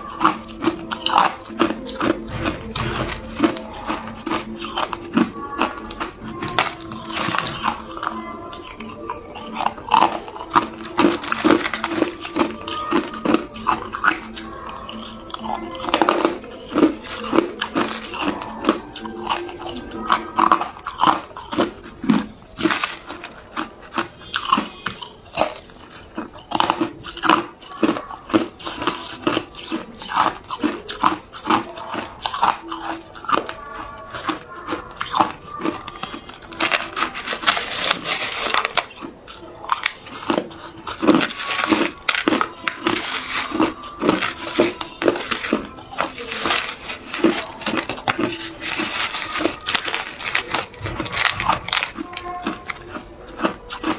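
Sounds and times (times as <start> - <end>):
ice cubes crunched by chewing: 0.0 - 53.9.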